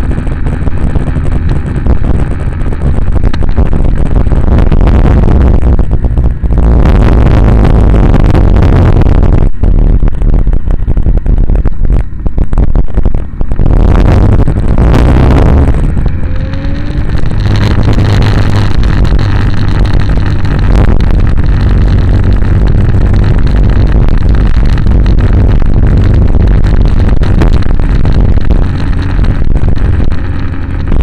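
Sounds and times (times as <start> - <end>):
low engine drone: 0.0 - 31.0
wind rumble on microphone: 0.0 - 31.0.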